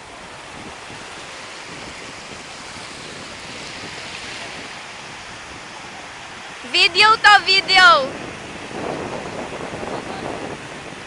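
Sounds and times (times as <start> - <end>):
ocean surf breaking: 0.0 - 11.0
wind on microphone: 0.0 - 11.0.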